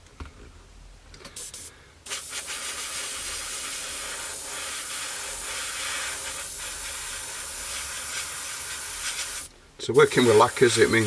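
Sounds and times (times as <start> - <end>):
airbrush hissing: 1.4 - 11.0.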